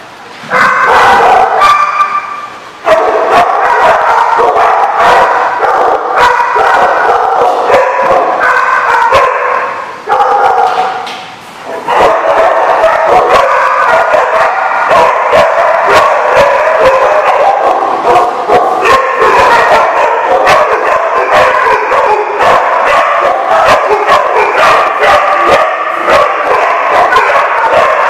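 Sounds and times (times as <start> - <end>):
many dogs barking: 0.5 - 11.0, 11.7 - 28.0.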